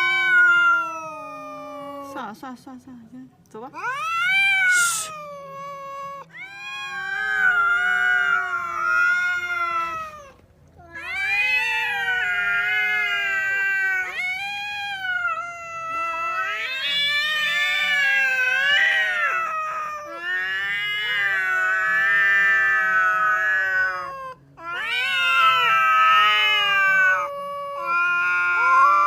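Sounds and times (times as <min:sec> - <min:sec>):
cats caterwauling: 0:00.0 - 0:02.4, 0:03.8 - 0:29.0.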